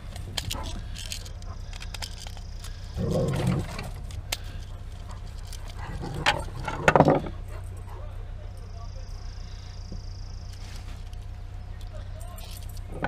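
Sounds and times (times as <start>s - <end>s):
low rumbling: 0.0s - 13.0s
steady low hum: 0.0s - 13.0s.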